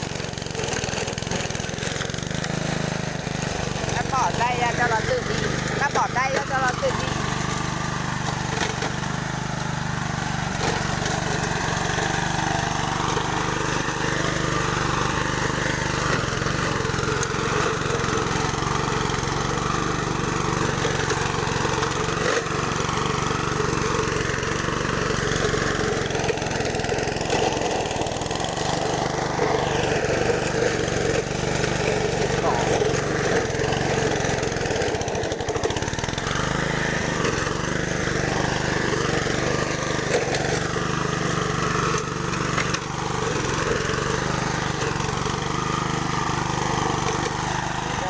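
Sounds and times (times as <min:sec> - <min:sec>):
lawn mower engine running: 0:00.0 - 0:48.0.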